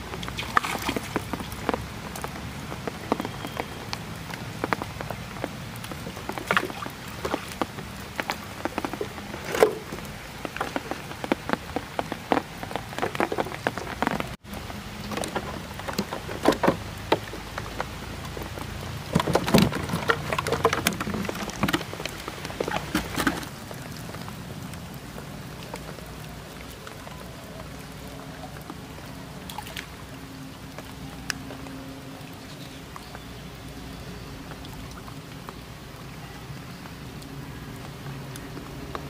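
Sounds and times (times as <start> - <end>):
rain falling on water: 0.0 - 39.0.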